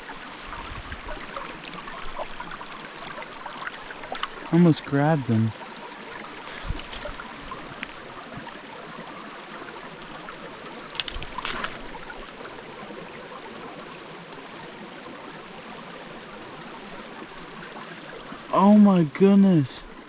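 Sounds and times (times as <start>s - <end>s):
water splashing: 0.0s - 19.0s
stream running over rocks: 0.0s - 20.0s.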